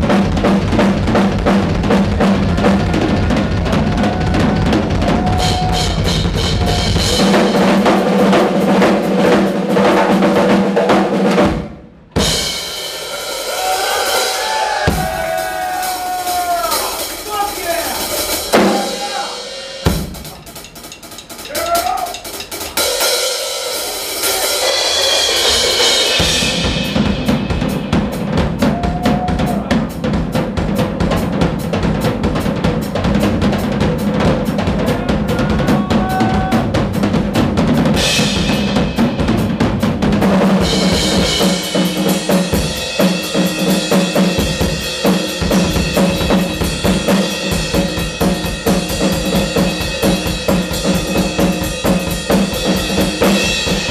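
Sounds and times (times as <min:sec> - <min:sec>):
drum solo: 0:00.0 - 0:53.9
fast bass drum strokes: 0:00.0 - 0:53.9.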